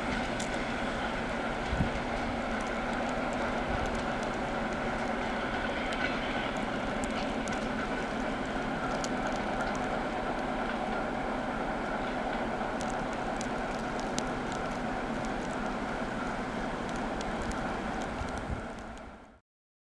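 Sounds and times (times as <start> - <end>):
electric train rolling: 0.0 - 19.4
faint clicks: 0.1 - 0.7, 1.6 - 10.8, 11.8 - 19.3.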